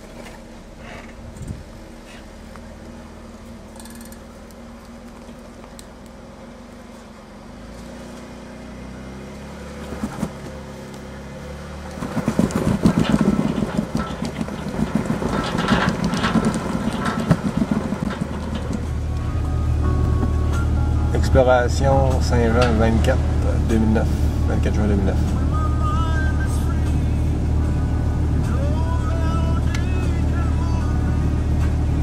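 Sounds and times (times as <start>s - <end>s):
car engine at low revs: 0.0s - 32.0s
tires scraping on rock: 0.0s - 32.0s.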